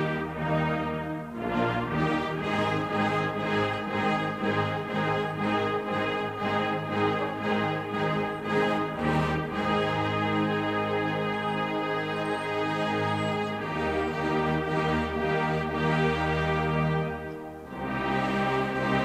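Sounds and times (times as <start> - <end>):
orchestral classical music: 0.0 - 19.0.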